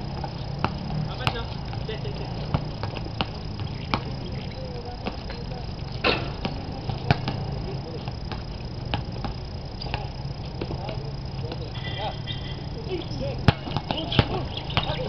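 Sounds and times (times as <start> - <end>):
basketball bouncing: 0.0 - 15.0
steady low hum: 0.0 - 15.0.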